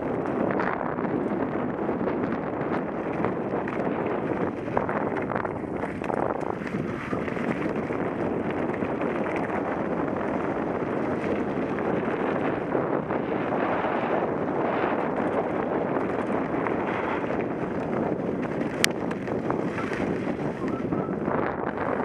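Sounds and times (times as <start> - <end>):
bike rattling over bumps: 0.0 - 22.0
wind rushing over microphone: 0.0 - 22.0.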